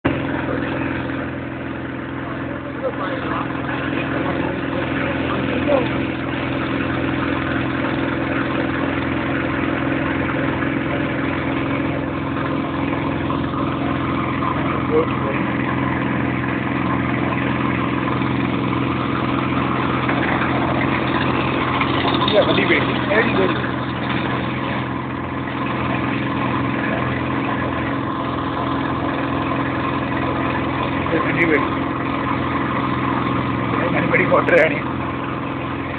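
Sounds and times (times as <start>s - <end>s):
engine running steadily: 0.0s - 35.9s.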